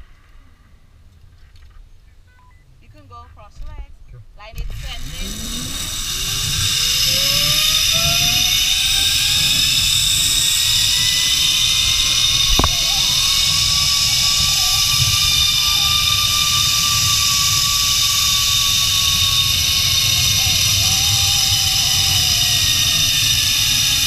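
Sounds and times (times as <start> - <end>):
zipline pulley whine: 4.6 - 24.0
wind on microphone: 4.7 - 24.0.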